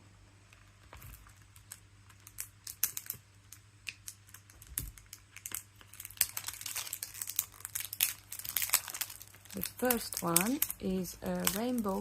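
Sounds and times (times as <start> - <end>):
packaging clicking and crackling: 0.5 - 12.0.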